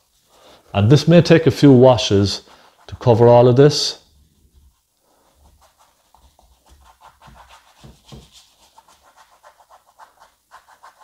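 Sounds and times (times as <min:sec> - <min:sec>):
paintbrush scrubbing canvas: 0:00.0 - 0:00.7, 0:02.0 - 0:03.5, 0:04.1 - 0:11.0.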